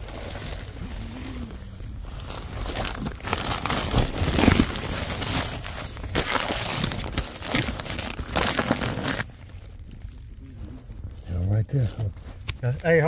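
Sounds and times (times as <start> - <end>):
plastic duct jacket crinkling: 0.0 - 13.0.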